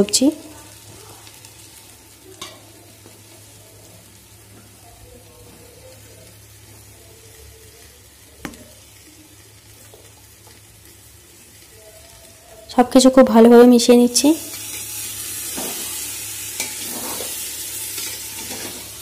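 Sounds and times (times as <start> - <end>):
rice and dal sizzling in a pot: 0.0 - 19.0.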